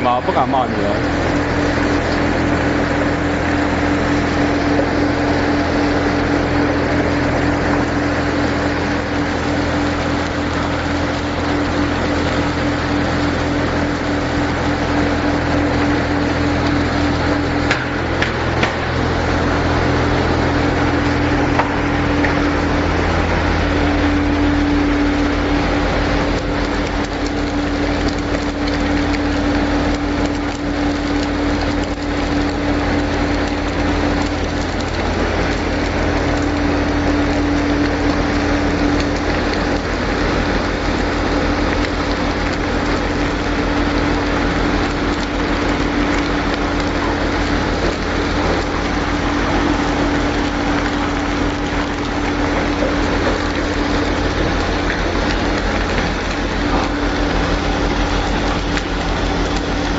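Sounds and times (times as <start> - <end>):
crackling hiss of frying: 0.0 - 59.9
machine hum: 0.0 - 59.9.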